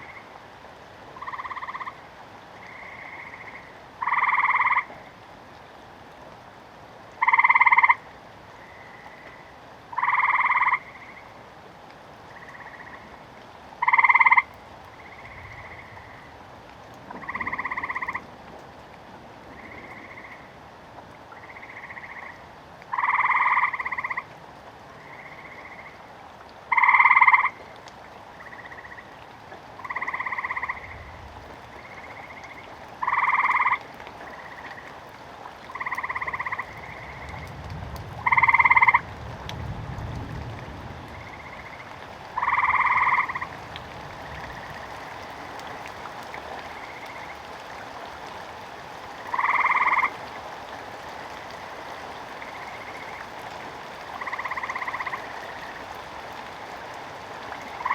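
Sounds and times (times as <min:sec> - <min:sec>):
frogs croaking: 0:00.0 - 0:00.5, 0:01.1 - 0:05.2, 0:07.1 - 0:11.4, 0:12.3 - 0:18.4, 0:19.4 - 0:20.6, 0:21.3 - 0:26.1, 0:26.7 - 0:29.2, 0:29.8 - 0:39.2, 0:40.1 - 0:57.9
rain hiss: 0:00.0 - 0:57.9.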